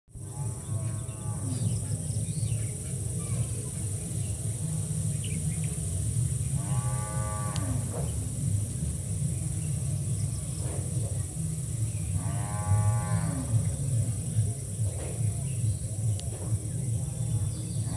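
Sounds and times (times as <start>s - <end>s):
low drone: 0.1s - 17.9s.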